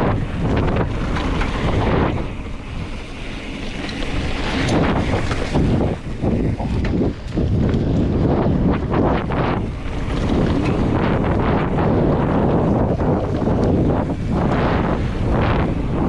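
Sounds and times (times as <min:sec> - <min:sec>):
bike rattling over bumps: 0:00.0 - 0:16.0
wind buffeting microphone: 0:00.0 - 0:16.0.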